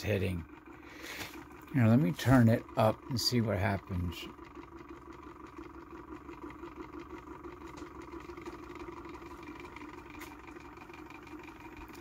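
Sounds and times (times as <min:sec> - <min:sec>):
motor whirring hum: 0:00.0 - 0:12.0.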